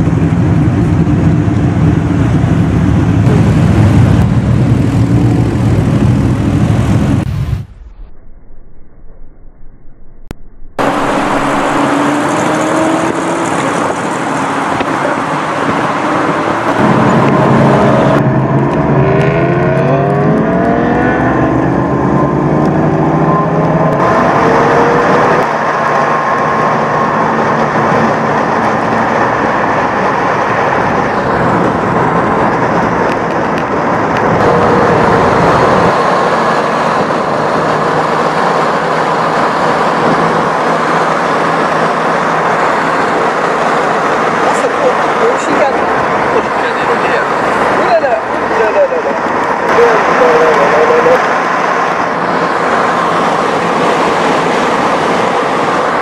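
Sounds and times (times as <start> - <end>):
car engine accelerating: 10.2 - 56.0.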